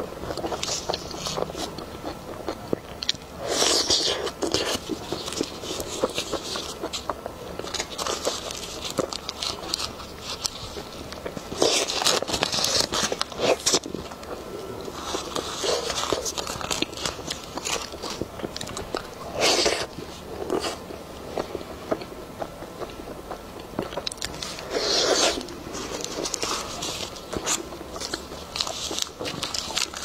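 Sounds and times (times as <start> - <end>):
person biting and chewing: 0.2 - 30.0.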